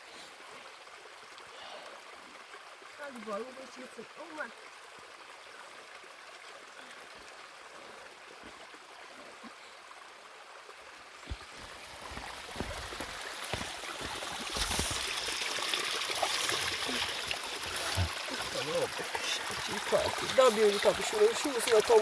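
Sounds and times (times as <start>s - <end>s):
water rushing: 1.4s - 22.0s.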